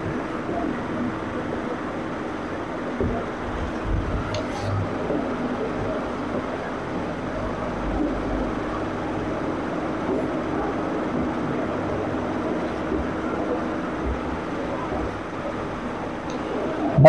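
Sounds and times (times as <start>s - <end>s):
machine droning hum: 0.0s - 17.0s.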